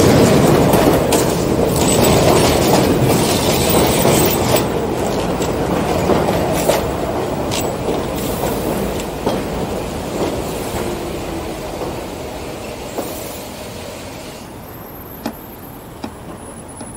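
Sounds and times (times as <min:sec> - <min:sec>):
train rumbling on steel track: 0:00.0 - 0:16.9.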